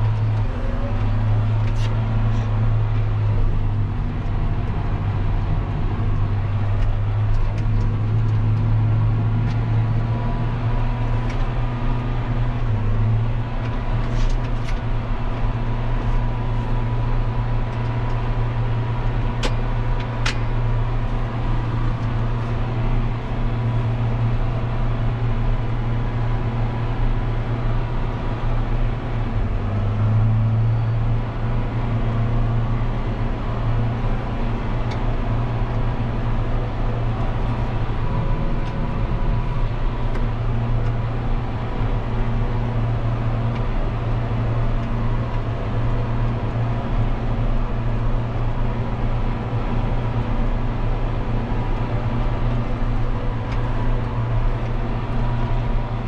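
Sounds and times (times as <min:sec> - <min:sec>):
tractor diesel engine drone: 0:00.0 - 0:56.0.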